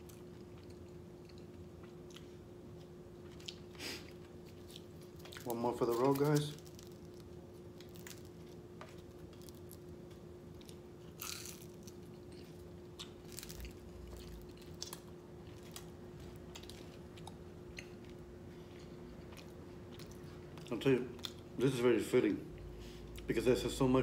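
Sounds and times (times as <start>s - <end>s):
chewing crunchy food: 0.0s - 21.5s
faint steady hum: 0.0s - 24.0s.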